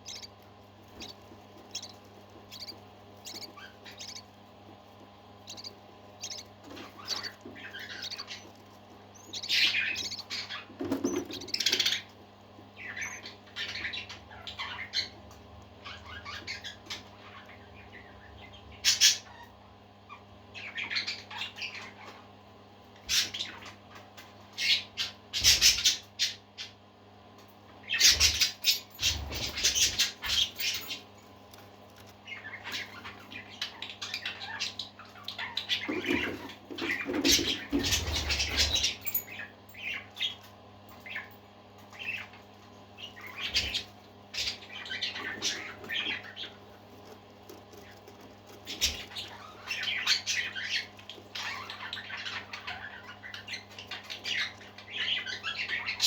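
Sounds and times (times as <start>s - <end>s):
parakeets chirping and squawking: 0.0s - 19.5s, 20.1s - 22.2s, 24.6s - 26.7s, 27.8s - 56.0s
faint steady hum: 0.0s - 56.0s.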